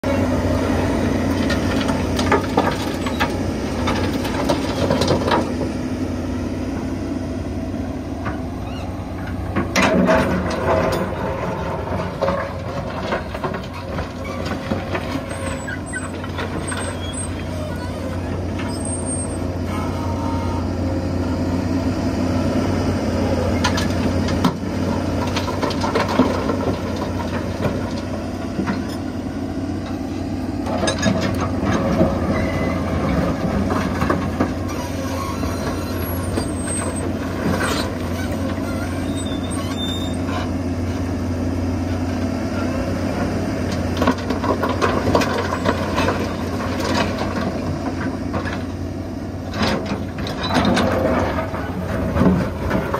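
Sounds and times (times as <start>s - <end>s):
excavator engine and hydraulics: 0.0s - 52.9s.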